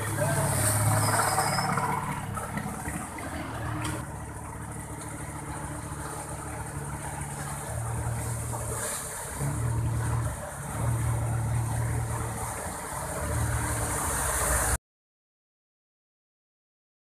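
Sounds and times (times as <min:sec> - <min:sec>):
vehicle engine humming: 0:00.0 - 0:14.8
wheels churning water: 0:00.0 - 0:14.8.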